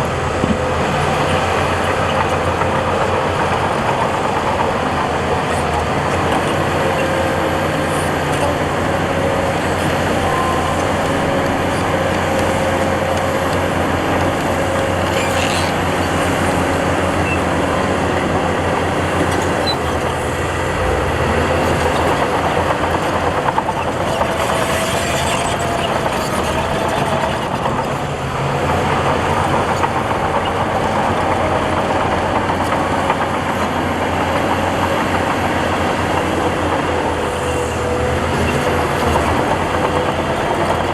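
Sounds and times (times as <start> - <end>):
diesel machinery engine drone: 0.0 - 40.9.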